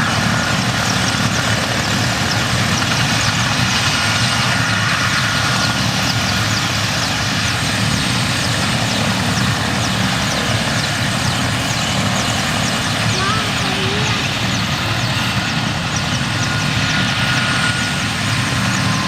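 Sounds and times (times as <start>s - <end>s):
helicopter rotor and engine: 0.0s - 19.0s.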